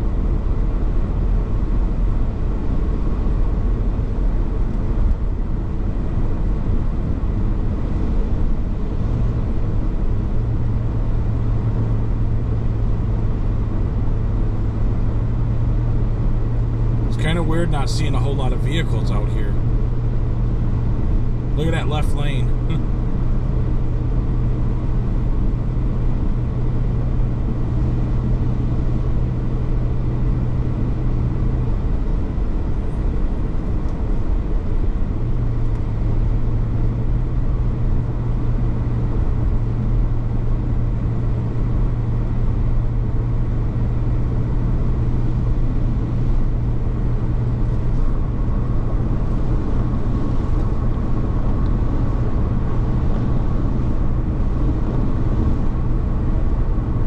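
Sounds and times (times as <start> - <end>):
car road and engine noise: 0.0 - 57.0
low hum: 0.0 - 57.0.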